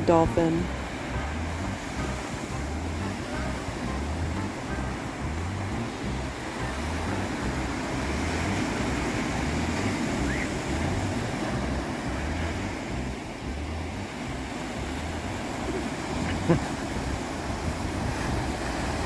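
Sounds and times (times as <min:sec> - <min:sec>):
ocean surf washing: 0:00.0 - 0:19.0
wind buffeting microphone: 0:00.0 - 0:19.0.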